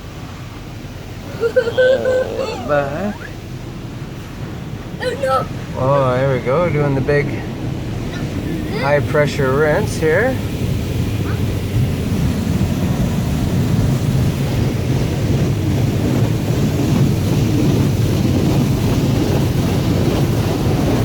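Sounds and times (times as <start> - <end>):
car wash water jets on vehicle: 0.0 - 21.0.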